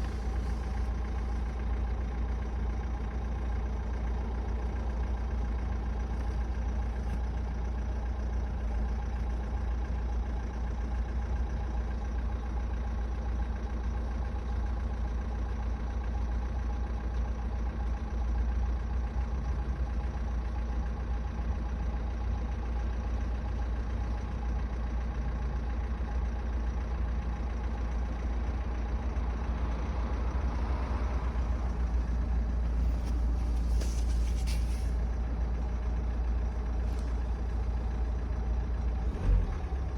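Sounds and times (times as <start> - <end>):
diesel engine idling: 0.0 - 39.9
engine knock: 0.0 - 39.9.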